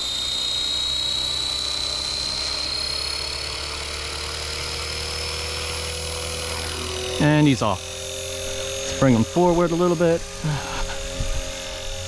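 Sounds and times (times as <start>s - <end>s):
high motor whine: 0.0s - 12.0s
low rotor hum: 0.0s - 12.0s.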